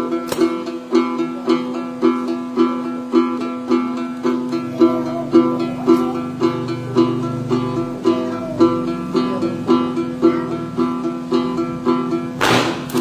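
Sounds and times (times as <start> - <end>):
plucked long-necked lute: 0.0 - 13.0.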